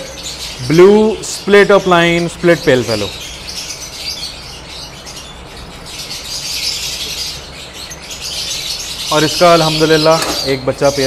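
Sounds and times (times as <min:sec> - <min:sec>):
lovebirds chattering and chirping: 0:00.0 - 0:11.0.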